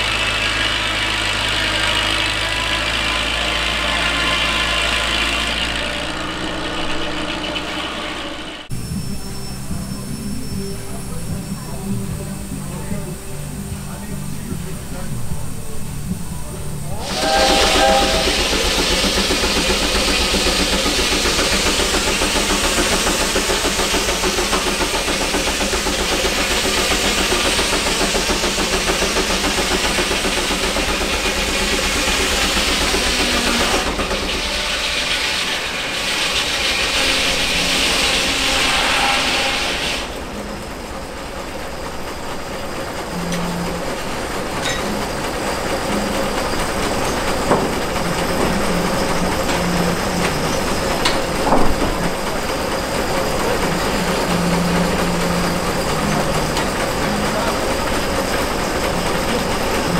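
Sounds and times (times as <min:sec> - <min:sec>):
loud steam hiss: 0:00.0 - 0:59.9
sawmill machinery running: 0:00.0 - 0:59.9.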